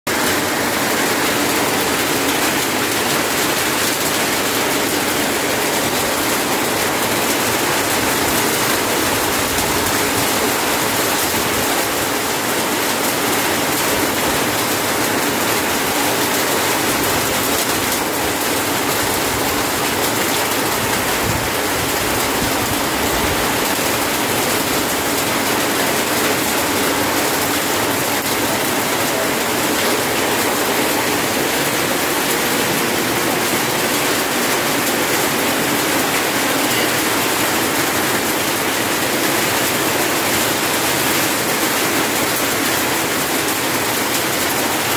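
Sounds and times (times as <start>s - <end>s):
heavy rain falling: 0.1s - 44.9s.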